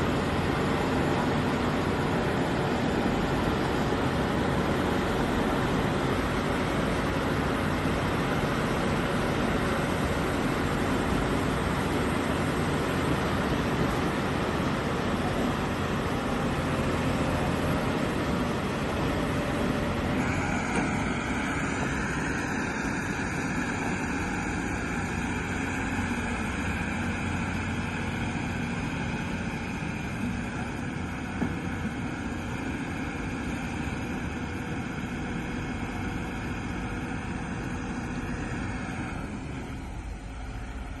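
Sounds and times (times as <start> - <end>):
excavator engine running: 0.0 - 41.0.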